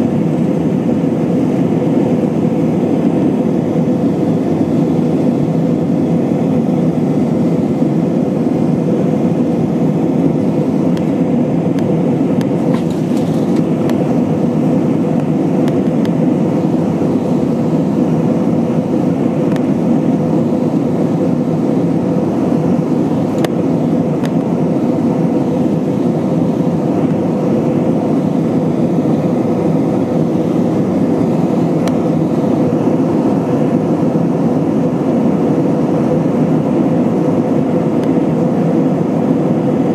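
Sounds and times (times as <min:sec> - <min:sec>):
airplane cabin noise: 0:00.0 - 0:39.9
steady hum: 0:00.0 - 0:39.9.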